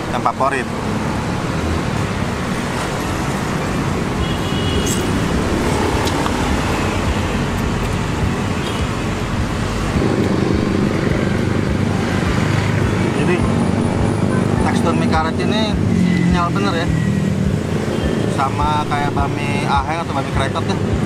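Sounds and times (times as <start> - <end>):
city road traffic: 0.0 - 21.0.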